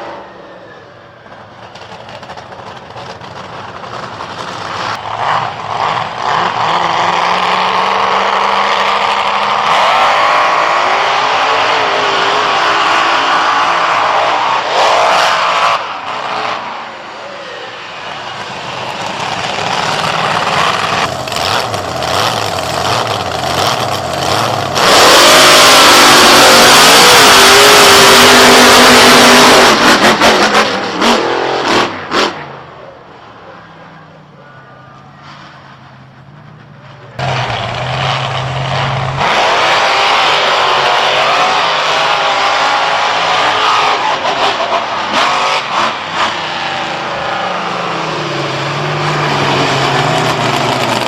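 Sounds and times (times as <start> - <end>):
monster truck engine revving: 0.0 - 34.2, 35.0 - 51.0.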